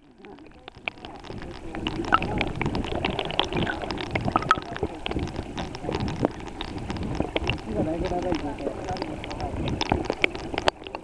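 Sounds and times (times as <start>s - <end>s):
small crackles and pops: 0.0s - 11.0s
water gurgling and bubbling: 0.0s - 11.0s.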